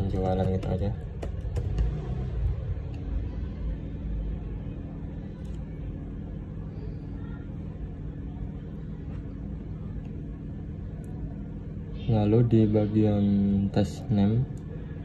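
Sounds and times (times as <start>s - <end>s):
room noise hum and rumble: 0.0s - 15.0s.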